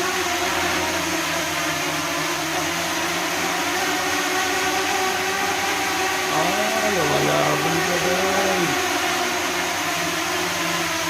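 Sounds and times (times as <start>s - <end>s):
electric fans whirring: 0.5s - 11.0s.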